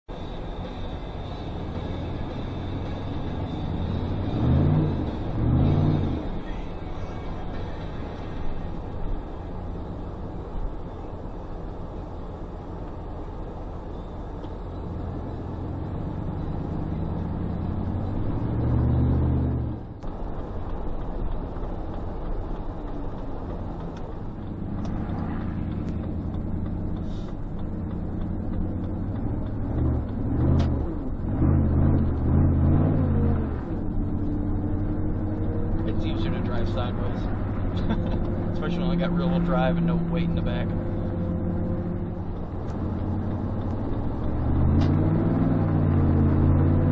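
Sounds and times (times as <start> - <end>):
road noise: 0.0 - 46.9
car engine revving: 0.2 - 12.9, 14.4 - 46.9.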